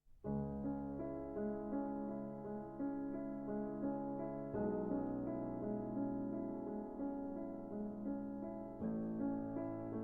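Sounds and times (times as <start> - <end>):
slow piano melody: 0.2 - 10.0.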